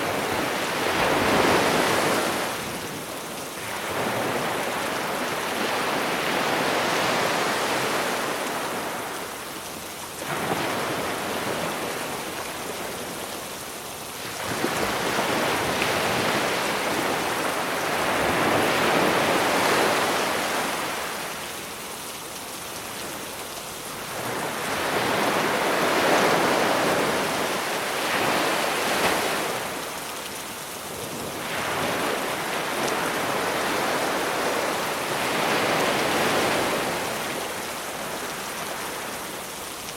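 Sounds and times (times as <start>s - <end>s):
rain hiss: 0.0s - 39.9s
sea waves washing onto beach: 0.0s - 39.9s.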